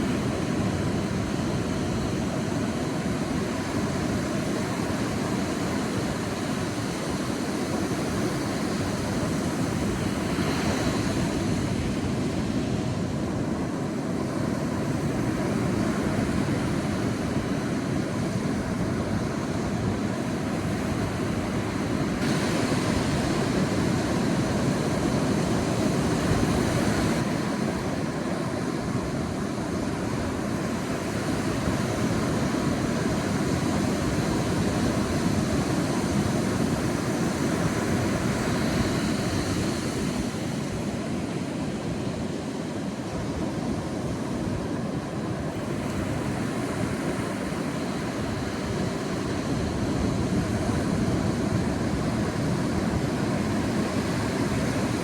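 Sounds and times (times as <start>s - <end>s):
sea waves washing on beach: 0.0s - 55.0s.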